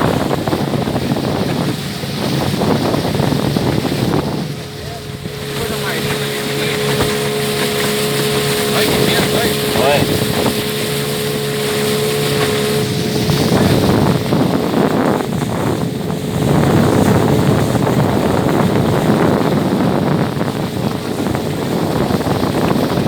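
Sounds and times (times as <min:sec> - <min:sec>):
motorboat engine running: 0:00.0 - 0:23.0
wind buffeting microphone: 0:00.0 - 0:23.0.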